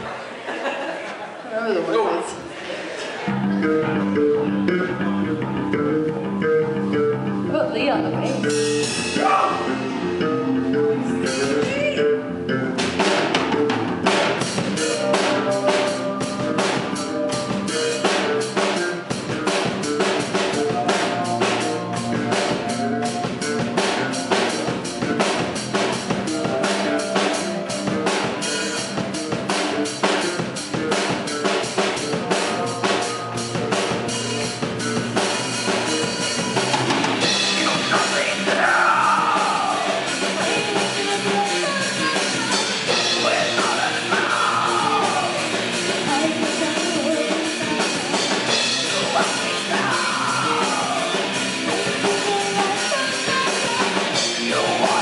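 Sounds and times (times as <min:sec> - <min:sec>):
electric guitars: 0:03.2 - 0:55.0
drum kit fast beat: 0:07.8 - 0:10.2, 0:11.2 - 0:12.0, 0:12.8 - 0:55.0.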